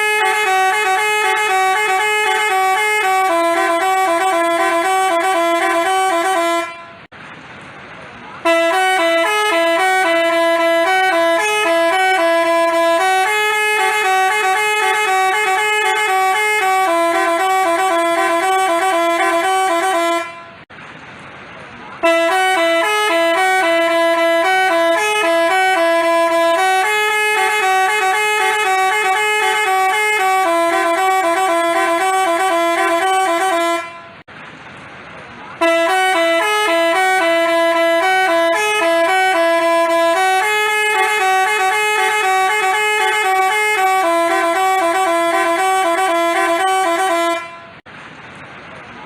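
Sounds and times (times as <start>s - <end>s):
bus horn playing melody: 0.0s - 7.1s, 8.4s - 20.7s, 22.0s - 34.3s, 35.6s - 47.9s.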